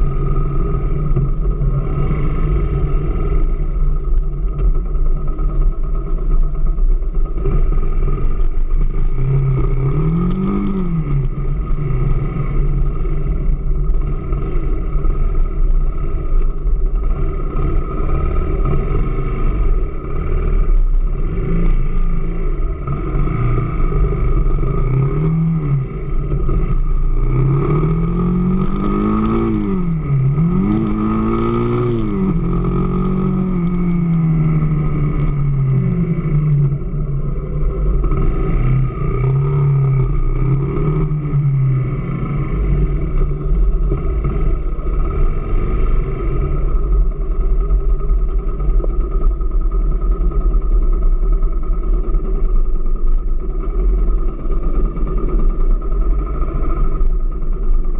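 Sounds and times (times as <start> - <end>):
motorcycle engine revving and idling: 0.0 - 57.9.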